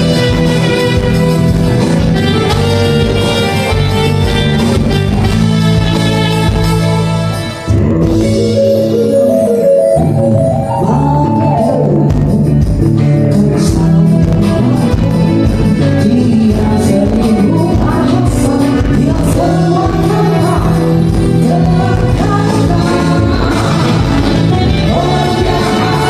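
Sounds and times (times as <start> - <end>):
live rock band with singer: 0.0 - 26.0.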